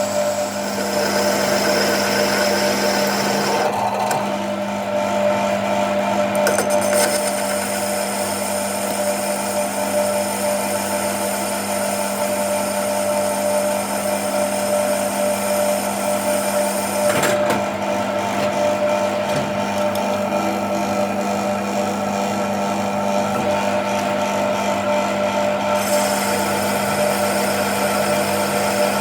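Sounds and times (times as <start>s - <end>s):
electric motor running: 0.0s - 4.9s, 6.3s - 29.0s.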